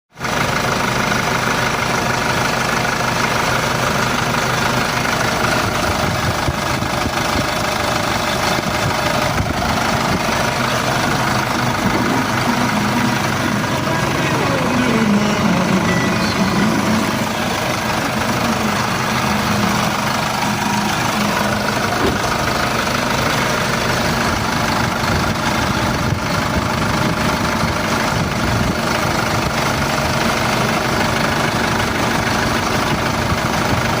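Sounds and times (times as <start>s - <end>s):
diesel engine idling with knock: 0.1s - 34.0s.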